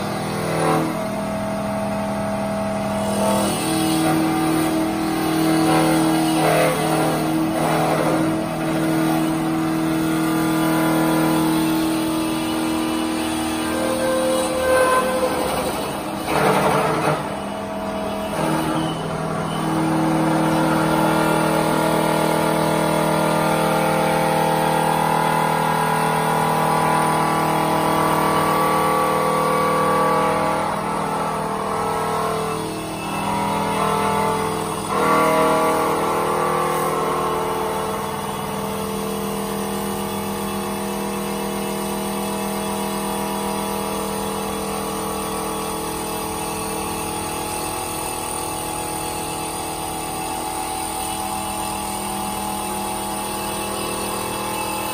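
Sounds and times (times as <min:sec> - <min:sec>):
wood lathe machine whine: 0:00.0 - 0:54.9.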